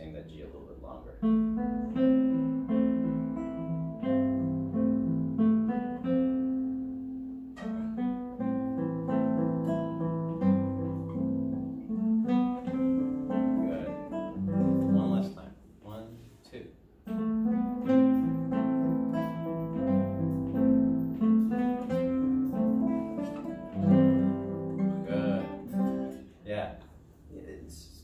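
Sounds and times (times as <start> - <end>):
classical guitar playing: 1.1 - 15.5, 17.0 - 26.4.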